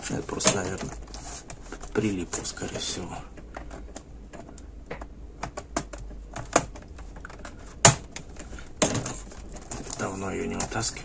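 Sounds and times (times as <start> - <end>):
plastic keyboard clicks and creaks: 0.1 - 8.6, 9.2 - 11.0.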